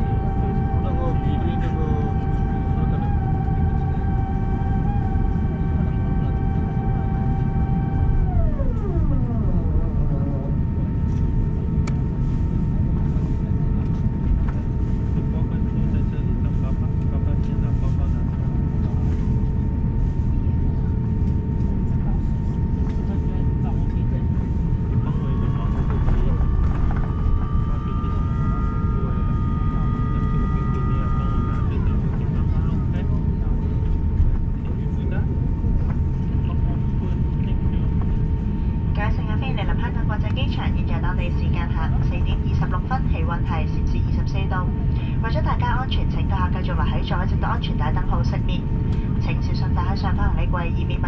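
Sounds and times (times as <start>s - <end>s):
airplane cabin rumble: 0.0s - 51.0s
jet engines whining: 0.0s - 51.0s.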